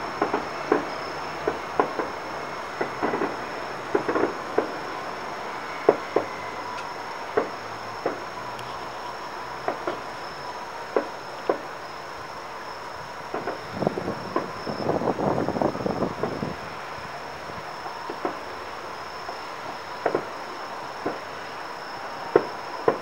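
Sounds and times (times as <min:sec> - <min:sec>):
distant fireworks bangs: 0:00.0 - 0:12.0, 0:12.6 - 0:16.9, 0:17.5 - 0:23.0.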